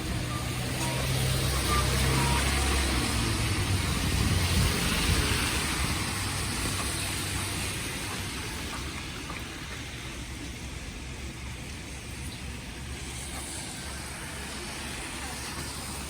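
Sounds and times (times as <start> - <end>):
vehicle engine rumble: 0.0 - 16.0
tyre hiss on wet road: 0.2 - 16.0.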